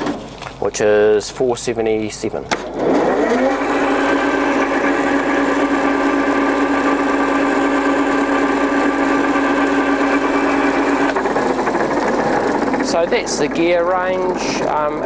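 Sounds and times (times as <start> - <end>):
lathe headstock gearing whine: 2.7 - 15.0.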